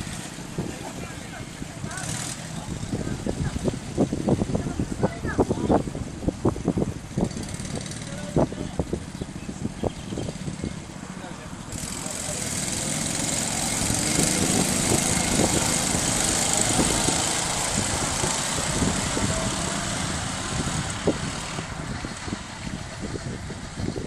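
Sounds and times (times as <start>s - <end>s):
go-kart engines running: 0.0s - 24.0s.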